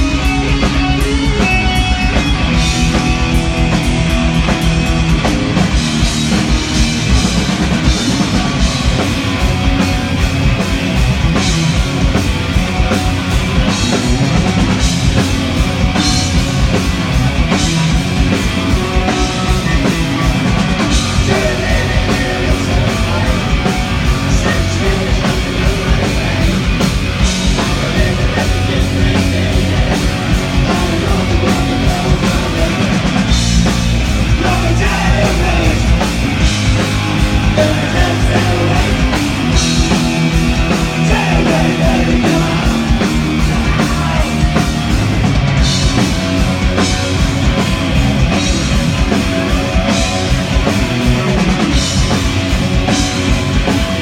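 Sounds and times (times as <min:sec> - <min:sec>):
distorted guitars: 0:00.0 - 0:54.0
heavy rock band playing: 0:00.0 - 0:54.0
pounding drum kit: 0:00.0 - 0:54.0.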